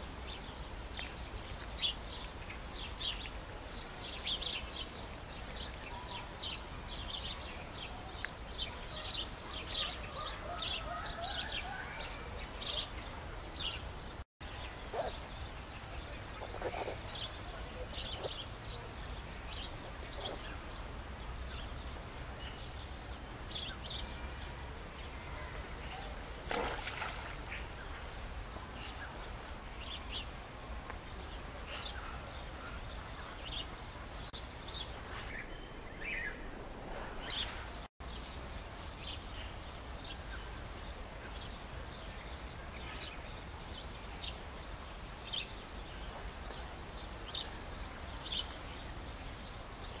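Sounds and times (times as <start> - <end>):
outdoor background noise: 0.0 - 50.0.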